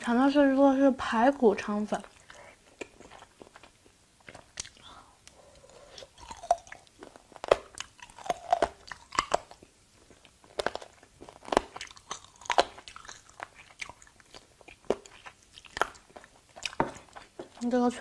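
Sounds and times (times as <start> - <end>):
crunching chewing: 2.0 - 17.7.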